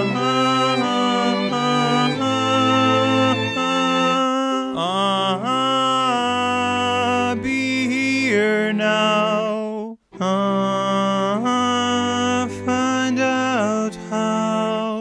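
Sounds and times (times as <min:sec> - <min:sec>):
man singing long notes: 0:00.0 - 0:15.0.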